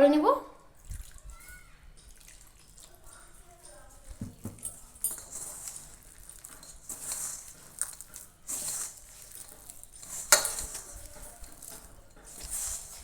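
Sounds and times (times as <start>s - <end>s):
wet batter squelching: 0.7s - 13.0s.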